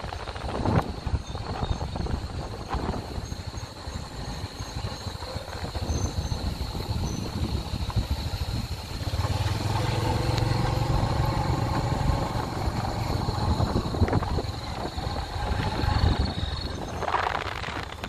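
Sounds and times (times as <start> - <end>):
motorbike engine rumbling: 0.2 - 18.0.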